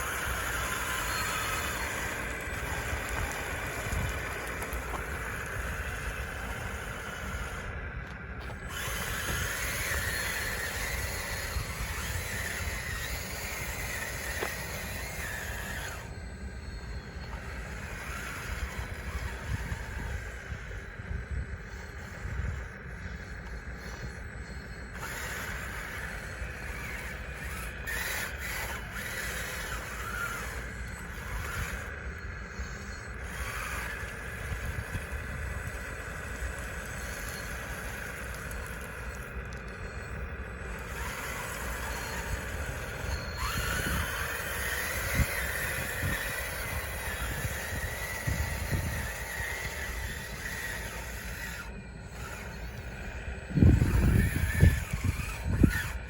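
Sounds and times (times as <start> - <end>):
electric motors whining: 0.0 - 56.0
steady low rumble: 0.0 - 56.0.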